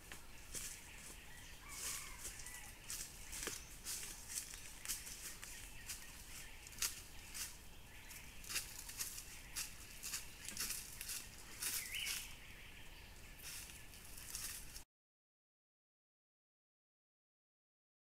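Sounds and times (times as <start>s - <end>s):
bird chirp: 0.0s - 14.8s
dry leaves crackling underfoot: 0.0s - 14.8s.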